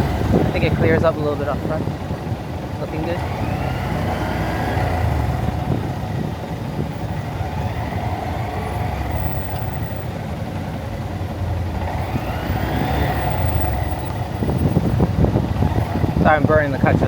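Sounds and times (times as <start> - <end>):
wind rumble on microphone: 0.0 - 3.8, 4.8 - 10.4, 11.6 - 17.0
low traffic rumble: 0.0 - 17.0
motorcycle engine running: 0.0 - 17.0.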